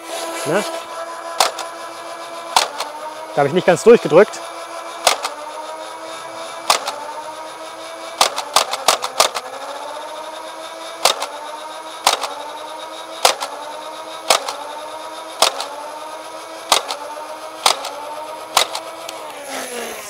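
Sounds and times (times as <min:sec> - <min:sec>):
flywheel motor whine: 0:00.0 - 0:20.0
toy blaster firing foam darts: 0:00.1 - 0:20.0.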